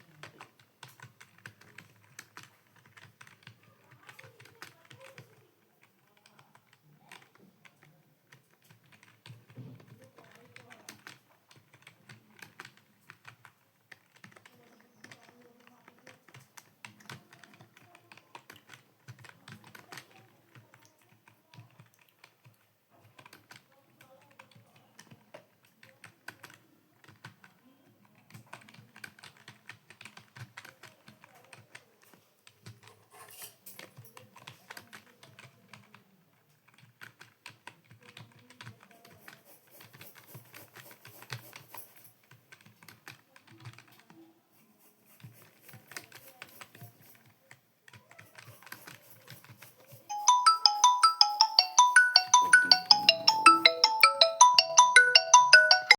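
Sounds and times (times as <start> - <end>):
fast typing on keyboard: 0.1 - 27.6, 28.2 - 31.9, 33.8 - 36.0, 36.6 - 55.9.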